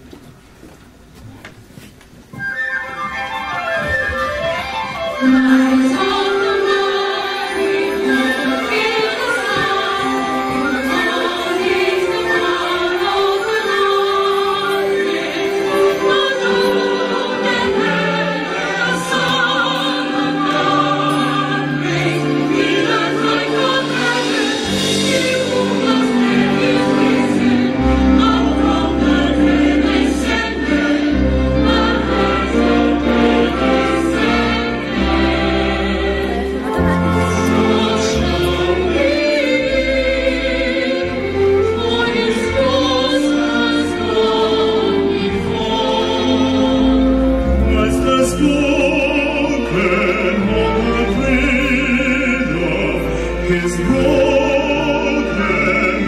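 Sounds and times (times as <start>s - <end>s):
choir singing long notes: 3.3s - 56.0s.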